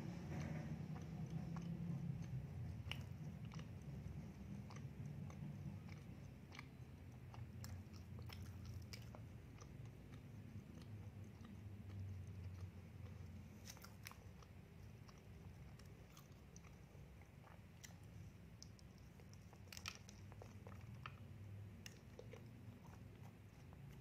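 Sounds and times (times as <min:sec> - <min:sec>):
steady low hum: 0:00.0 - 0:24.0
person chewing crunchy food: 0:00.4 - 0:24.0.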